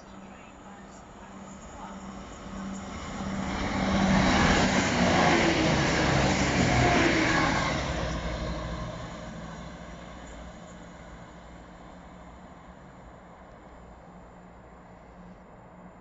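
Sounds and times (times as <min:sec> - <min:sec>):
diesel train passing at speed: 0:00.0 - 0:16.0.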